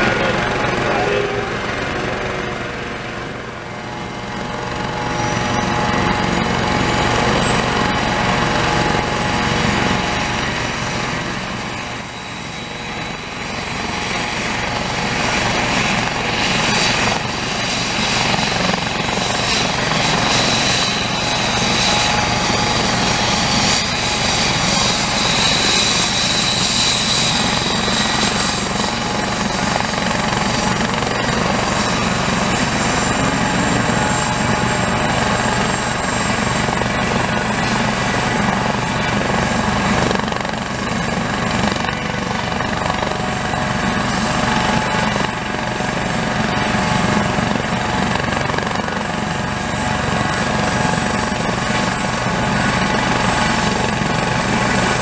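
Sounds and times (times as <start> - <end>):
helicopter rotor beat: 0.0 - 55.0
high turbine whine: 0.0 - 55.0.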